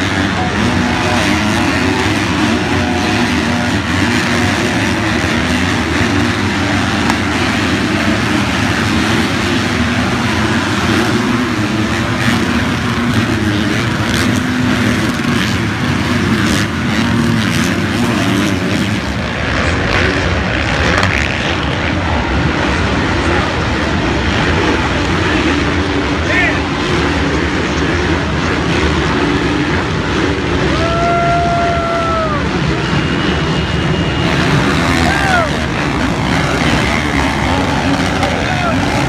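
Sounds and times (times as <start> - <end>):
motocross engines revving: 0.0 - 39.0.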